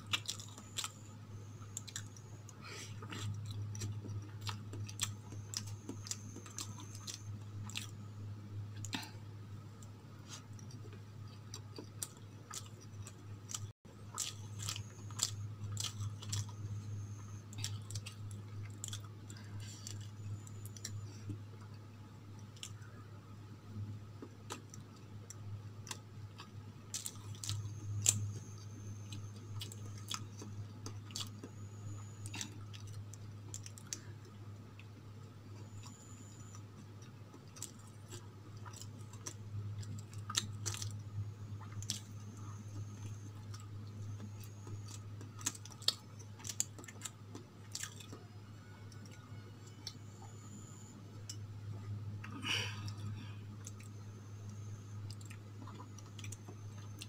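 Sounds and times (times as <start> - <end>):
chewing and wet mouth sounds: 0.0 - 23.0, 23.8 - 57.0
low hum: 0.0 - 57.0.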